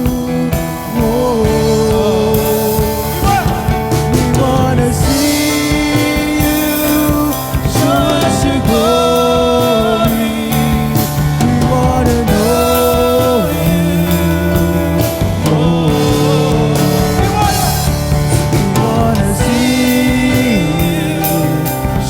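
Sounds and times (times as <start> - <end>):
band with bass keyboard and drums: 0.0 - 22.0
people singing: 0.0 - 22.0.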